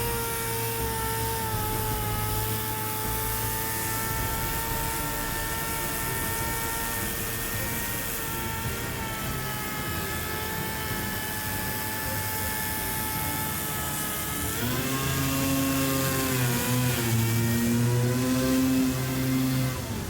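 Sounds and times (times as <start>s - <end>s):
motor running: 0.0s - 20.0s.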